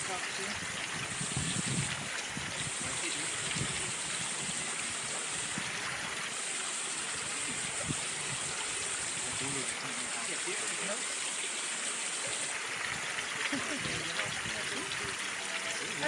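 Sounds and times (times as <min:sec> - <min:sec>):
water splashing into a pond: 0:00.0 - 0:16.0.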